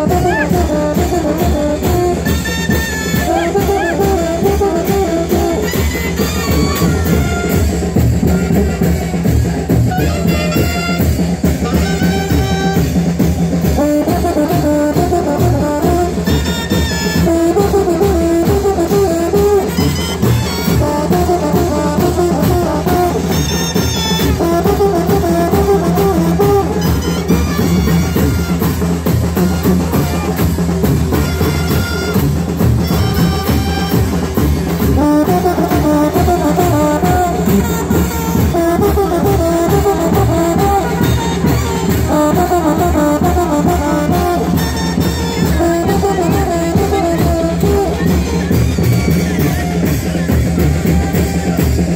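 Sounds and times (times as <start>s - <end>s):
brass melody: 0.0s - 51.9s
drum beat: 0.0s - 51.9s.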